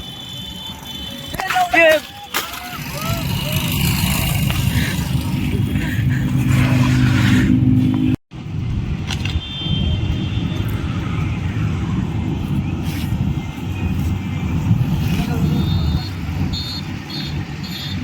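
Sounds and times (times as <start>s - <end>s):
vehicle engine hum: 2.1s - 18.0s
heavy low road rumble: 2.5s - 18.0s
wind noise: 2.8s - 18.0s.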